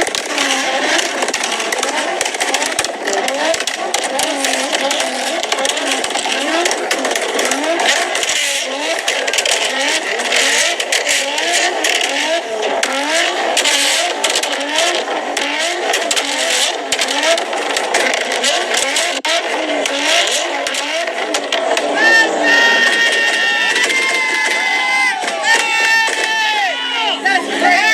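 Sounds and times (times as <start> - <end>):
car engines revving: 0.0 - 27.9
crackly exhaust rasp: 0.0 - 27.9.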